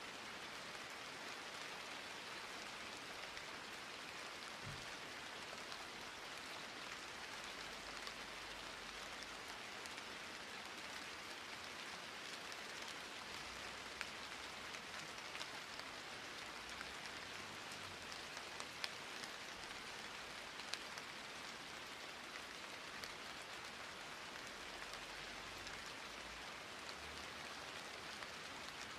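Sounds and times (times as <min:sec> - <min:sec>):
steady rain hiss: 0:00.0 - 0:28.9.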